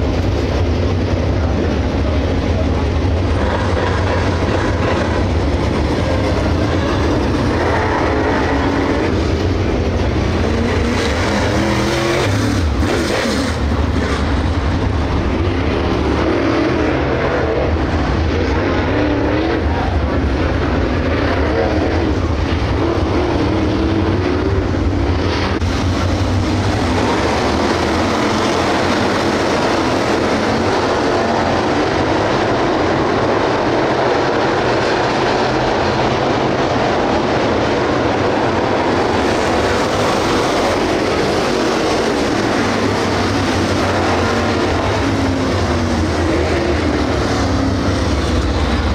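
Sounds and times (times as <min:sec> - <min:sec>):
race car engines rumbling: 0:00.0 - 0:48.9.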